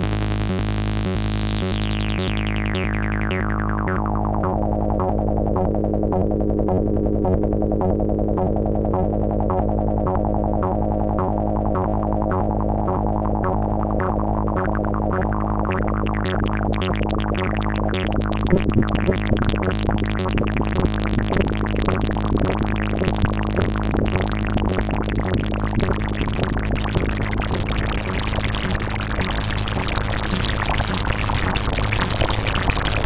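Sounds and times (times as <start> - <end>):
synthesizer burbling note pattern: 0.0 - 33.0.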